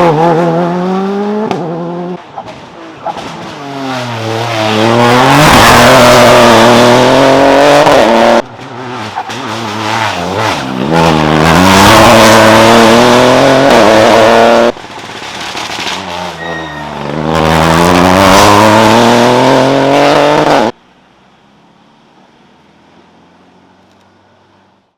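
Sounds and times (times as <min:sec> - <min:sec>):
rally cars passing at speed: 0:00.0 - 0:20.8.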